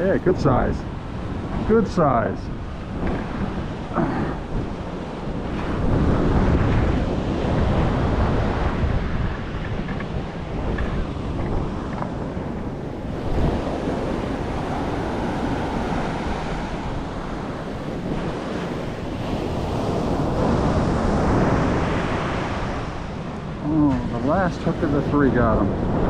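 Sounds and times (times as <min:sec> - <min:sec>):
ocean surf washing onto beach: 0:00.0 - 0:26.0
wind buffeting microphone: 0:00.0 - 0:26.0.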